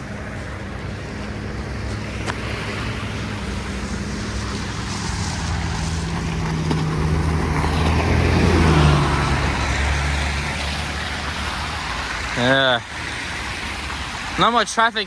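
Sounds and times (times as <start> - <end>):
road and wind noise: 0.0 - 15.0
vehicle engine humming: 0.0 - 15.0.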